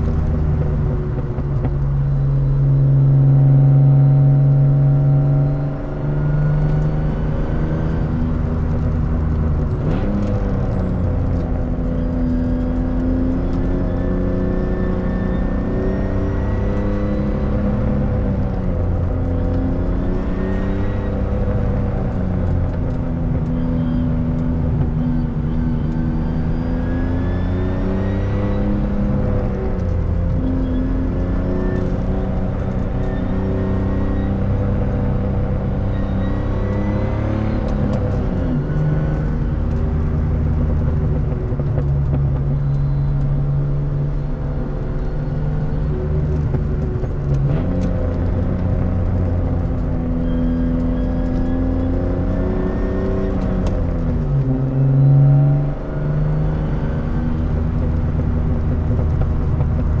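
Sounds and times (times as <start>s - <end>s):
car engine with loud exhaust: 0.0s - 60.0s.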